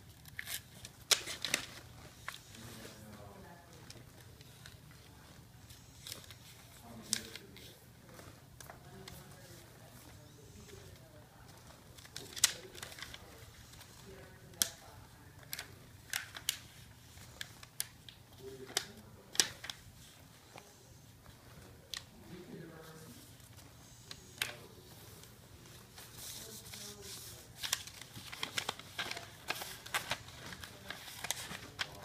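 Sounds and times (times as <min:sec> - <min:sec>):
paper crackling being folded: 0:00.0 - 0:32.0.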